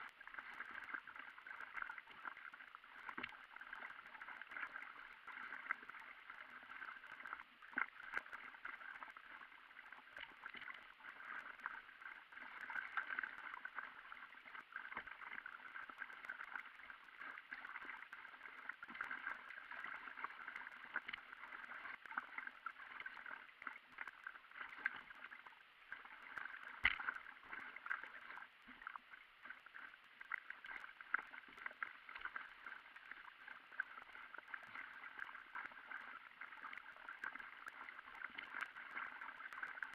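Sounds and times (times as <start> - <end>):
paddle strokes splashing water: 0.0 - 39.9.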